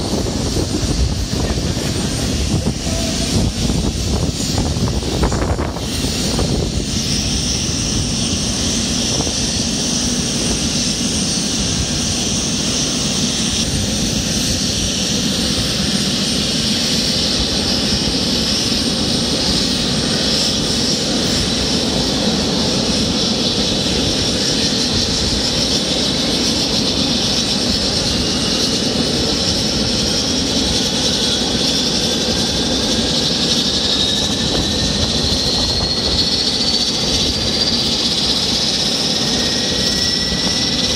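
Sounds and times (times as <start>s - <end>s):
high turbine whine: 0.0s - 40.9s
turboprop engines running: 0.0s - 40.9s.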